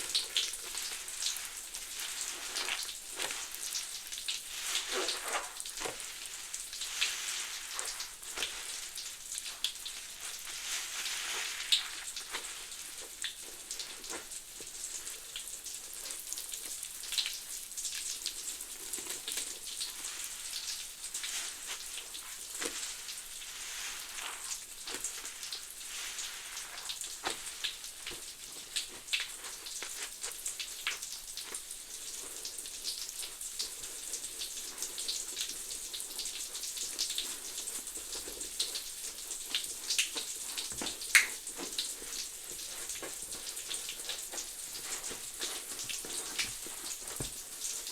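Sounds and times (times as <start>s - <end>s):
soap suds crackling and fizzing: 0.0s - 47.9s.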